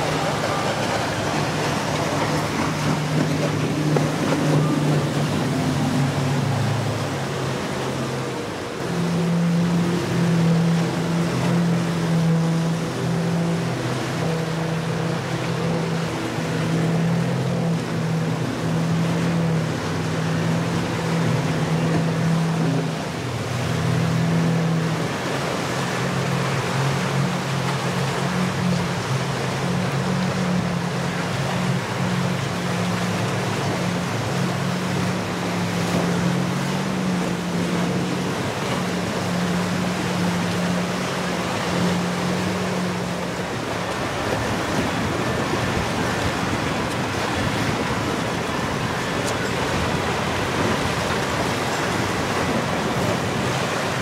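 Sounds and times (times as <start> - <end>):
boat engines droning: 0.0 - 54.0
rush of boat wake and spray: 0.0 - 54.0
wind: 0.0 - 54.0.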